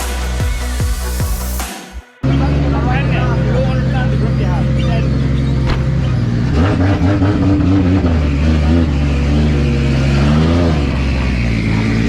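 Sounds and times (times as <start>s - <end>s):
car engine idling and revving: 2.2s - 12.0s.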